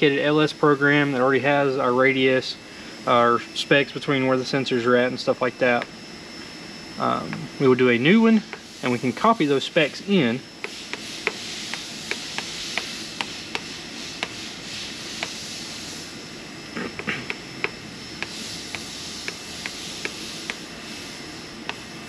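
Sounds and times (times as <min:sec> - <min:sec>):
steady shop hiss: 0:00.0 - 0:22.0.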